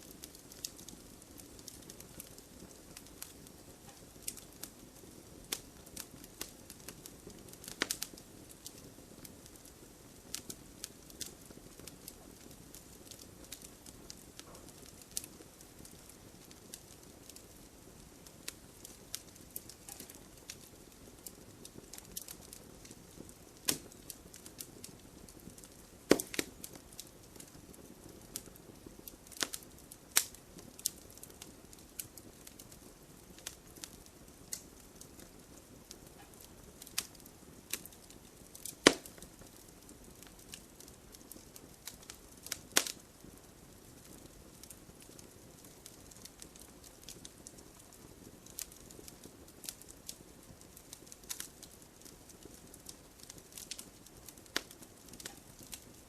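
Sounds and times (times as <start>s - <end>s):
faint steady hiss: 0.0s - 56.0s
wood fire crackling and popping: 0.0s - 56.0s.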